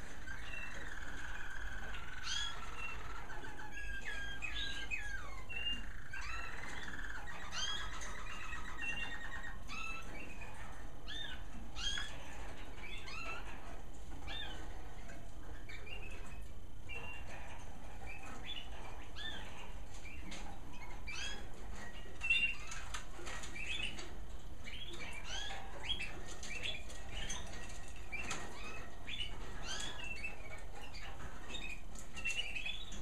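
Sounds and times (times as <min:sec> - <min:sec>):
canaries singing trills: 0:00.0 - 0:33.0
steady low hum: 0:00.0 - 0:33.0.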